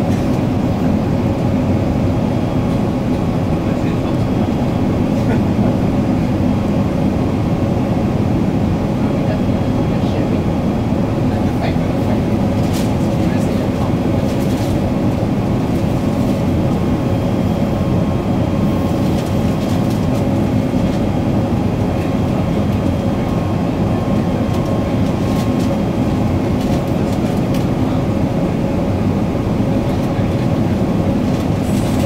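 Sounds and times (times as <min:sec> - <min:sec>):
airflow and engine noise: 0:00.0 - 0:32.0.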